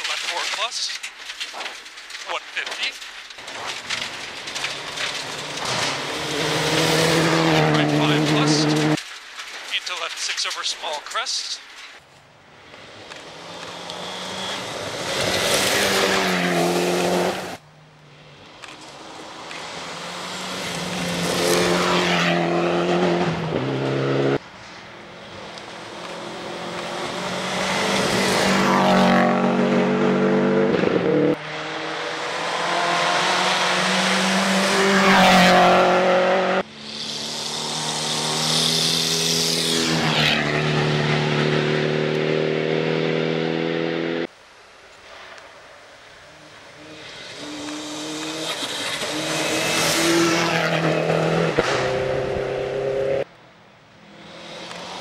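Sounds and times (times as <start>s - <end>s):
rally car engines revving: 0.0s - 11.6s, 12.7s - 44.3s, 46.4s - 55.0s.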